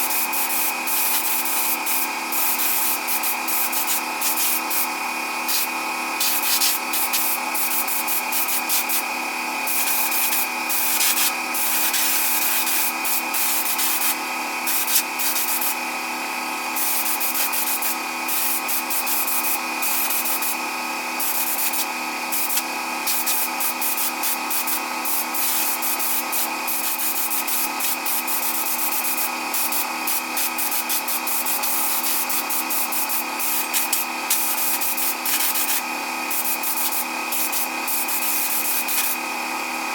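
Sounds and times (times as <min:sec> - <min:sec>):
electric power tool motor whine: 0:00.2 - 0:39.9.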